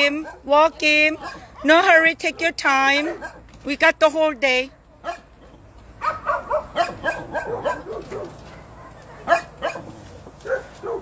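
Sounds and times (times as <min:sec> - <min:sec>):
dog barking and yipping: 0:00.0 - 0:03.5, 0:05.0 - 0:11.0.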